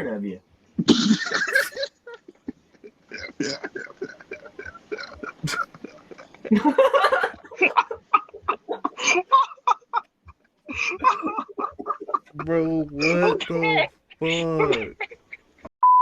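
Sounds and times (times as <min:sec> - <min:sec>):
people laughing: 0:01.1 - 0:15.6.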